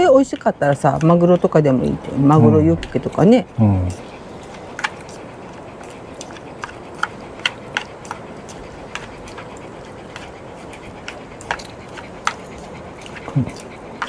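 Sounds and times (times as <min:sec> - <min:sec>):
chopsticks clicking against bowls: 0:00.0 - 0:14.0
steady background hiss: 0:00.0 - 0:14.0.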